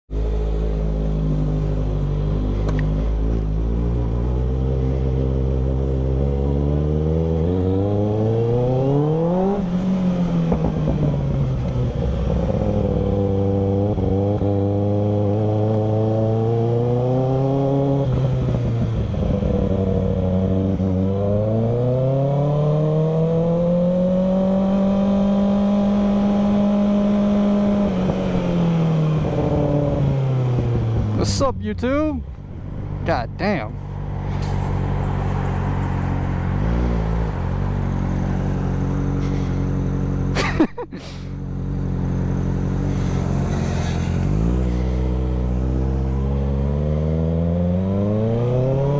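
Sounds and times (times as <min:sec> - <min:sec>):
motorcycle engine revving: 0:00.2 - 0:40.6, 0:41.2 - 0:48.9.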